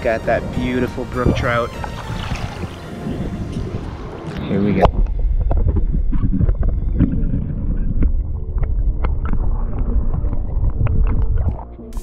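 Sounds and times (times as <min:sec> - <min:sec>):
underwater rumbling and sloshing: 0:00.0 - 0:11.9.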